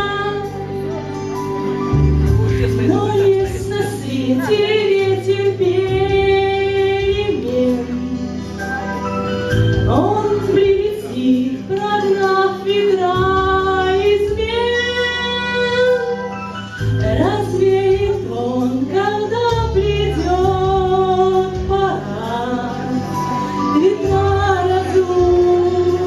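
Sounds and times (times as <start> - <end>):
woman singing: 0.0 - 1.4, 2.7 - 26.0
instrumental accompaniment: 0.0 - 26.0.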